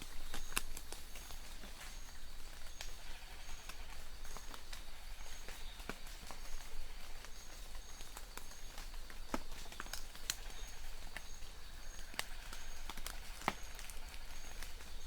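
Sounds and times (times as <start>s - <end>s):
raindrops pattering close by: 0.0s - 15.0s.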